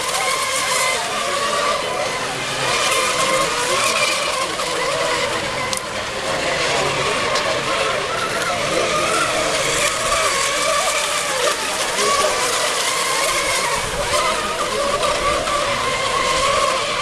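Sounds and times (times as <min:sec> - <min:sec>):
model boat engines whining: 0:00.0 - 0:17.0.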